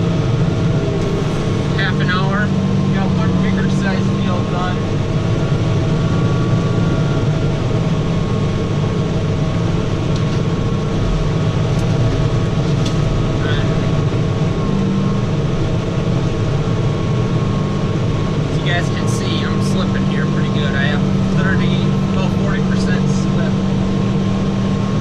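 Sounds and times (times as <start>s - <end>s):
faint steady whines: 0.0s - 25.0s
tractor engine droning: 0.0s - 25.0s.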